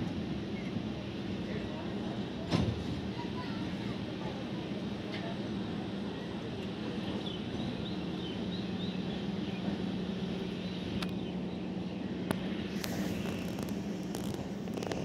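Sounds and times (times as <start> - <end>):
train coaches rumbling on rails: 0.0 - 15.0.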